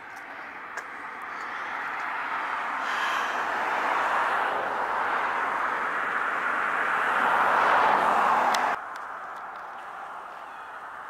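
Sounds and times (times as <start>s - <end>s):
passing car tyre noise: 0.0s - 11.0s.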